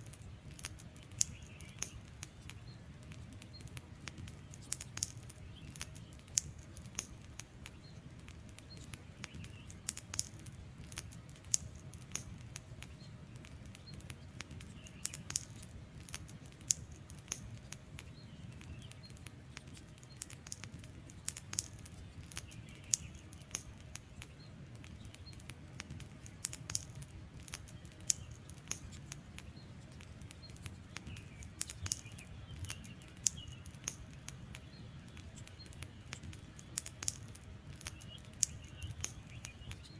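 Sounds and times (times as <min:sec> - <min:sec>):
faint bird chirps: 0:00.0 - 0:39.9
low rumble of burning: 0:00.0 - 0:39.9
wood fire crackling and popping: 0:00.0 - 0:39.9.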